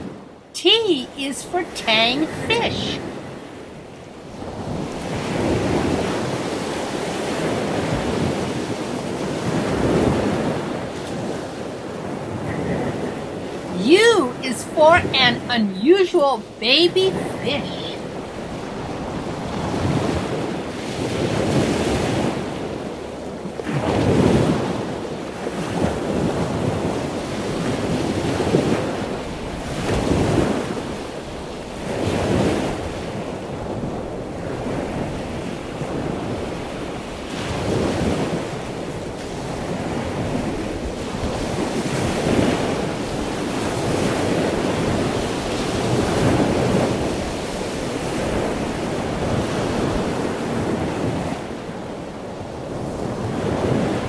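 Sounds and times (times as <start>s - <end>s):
ocean surf: 0.0s - 54.0s.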